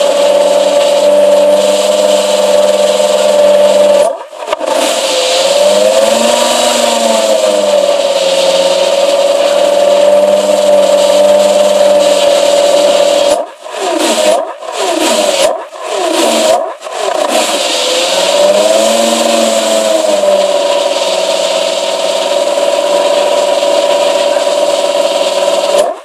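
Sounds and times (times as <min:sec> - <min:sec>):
car engine revving through exhaust: 0:00.0 - 0:26.0.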